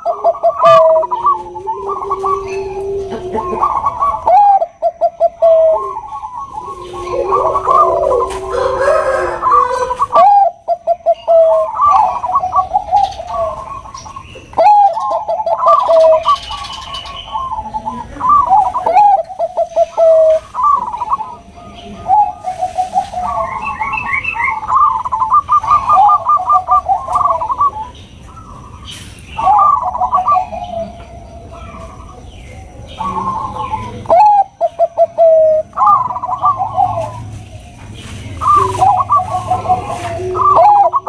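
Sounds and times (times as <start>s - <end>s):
doves cooing: 0.0s - 41.0s.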